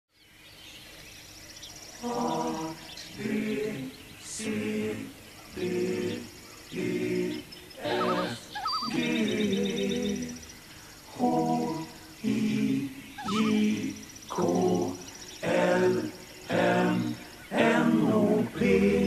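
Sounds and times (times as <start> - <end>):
choir singing held chords: 1.8 - 19.0.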